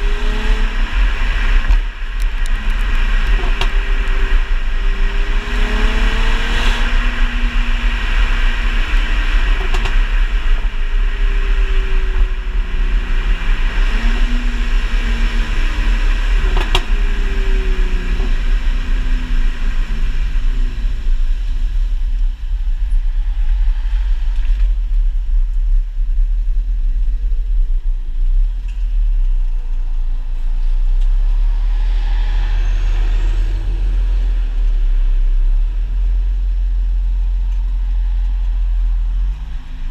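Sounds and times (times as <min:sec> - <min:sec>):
car engine and exhaust driving: 0:00.0 - 0:39.9
exhaust crackles: 0:00.0 - 0:39.9.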